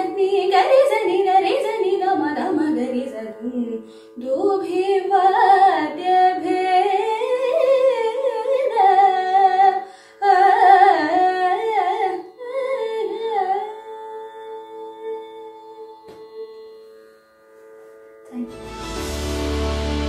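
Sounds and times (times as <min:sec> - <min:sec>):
woman singing ornamented phrases: 0:00.0 - 0:16.9, 0:18.3 - 0:18.7.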